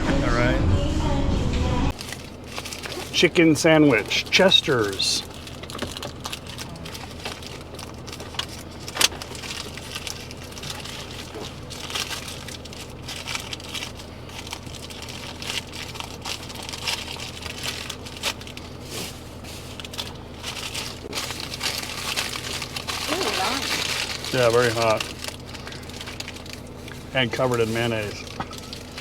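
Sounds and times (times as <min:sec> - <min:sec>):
steady low hum: 0:00.0 - 0:29.0
paper wrapper crinkling: 0:01.9 - 0:29.0.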